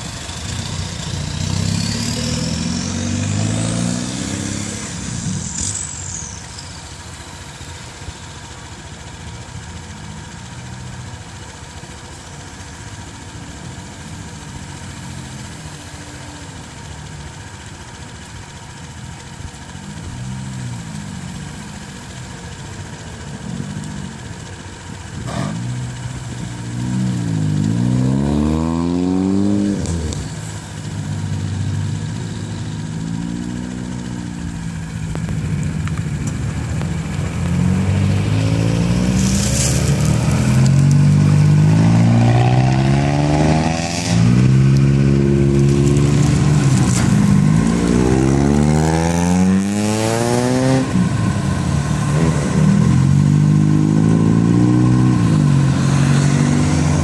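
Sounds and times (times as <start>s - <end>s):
car engines idling and revving: 0.0s - 57.0s.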